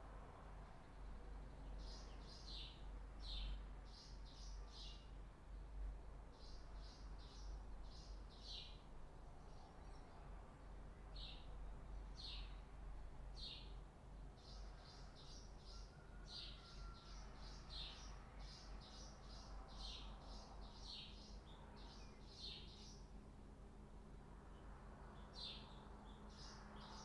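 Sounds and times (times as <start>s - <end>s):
faint bird chirping: 0.7s - 5.7s, 6.3s - 10.4s, 11.0s - 12.7s, 13.3s - 23.1s, 24.5s - 27.0s.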